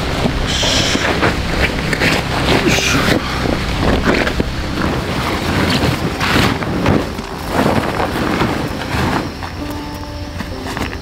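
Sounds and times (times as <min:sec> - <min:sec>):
tent canvas rustling and flapping: 0:00.0 - 0:11.0.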